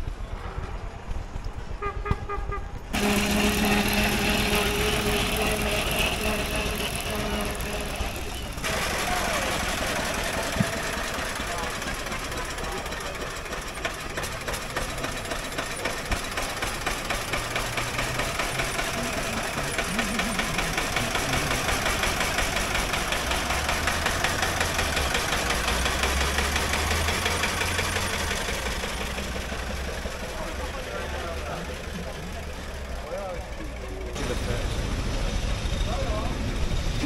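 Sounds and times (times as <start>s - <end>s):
car engine chugging: 0.0s - 37.0s
deep engine rumble: 0.0s - 37.0s.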